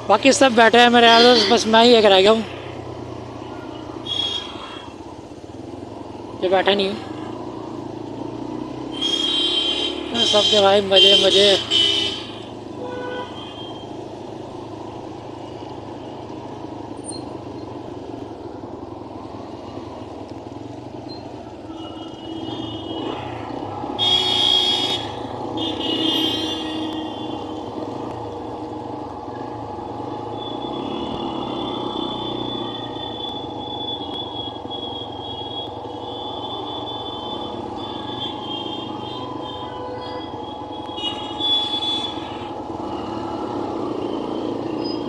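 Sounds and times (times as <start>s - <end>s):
engine and traffic noise: 0.0s - 45.0s.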